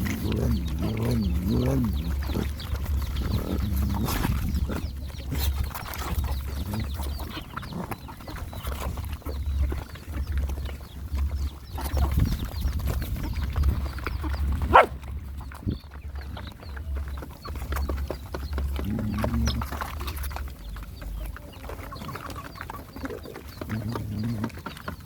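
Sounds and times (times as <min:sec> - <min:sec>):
dogs chewing and slurping: 0:00.0 - 0:25.0.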